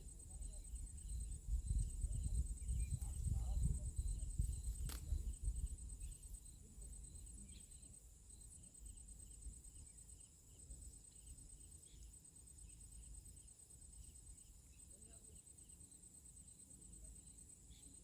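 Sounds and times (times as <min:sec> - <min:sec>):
insects trilling: 0:00.0 - 0:18.0
slower insect chirp: 0:00.0 - 0:18.0.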